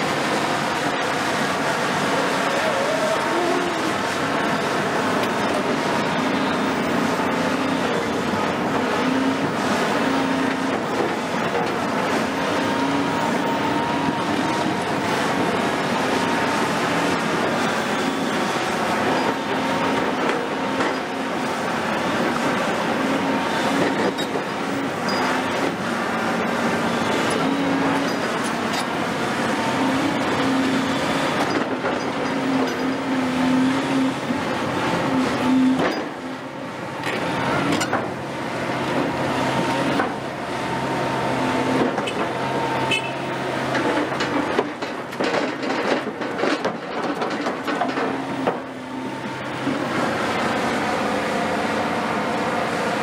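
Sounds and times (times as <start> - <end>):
excavator diesel engine: 0.0 - 53.0.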